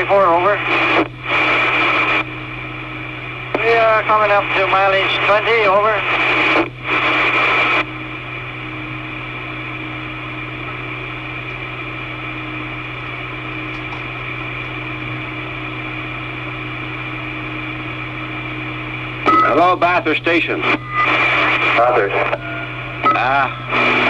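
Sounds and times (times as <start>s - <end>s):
loud radio static hiss: 0.0s - 24.0s
quiet radio hiss and hum: 0.0s - 24.0s.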